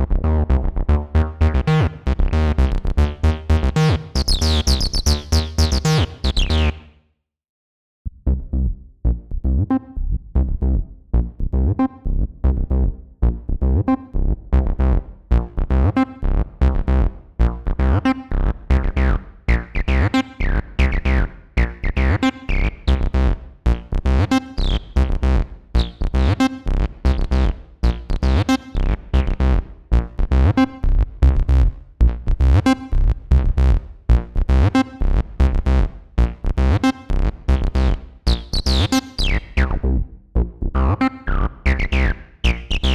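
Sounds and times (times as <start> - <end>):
squelchy acid synth bassline: 0.0 - 6.9, 14.6 - 42.9.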